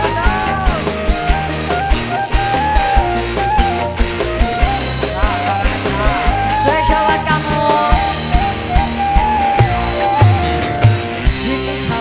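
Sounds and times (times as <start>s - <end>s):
live band playing through speakers: 0.0s - 12.0s.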